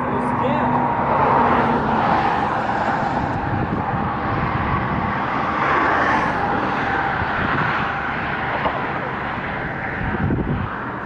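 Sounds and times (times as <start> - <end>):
highway traffic rushing: 0.0 - 11.0
wind buffeting microphone: 0.0 - 11.0.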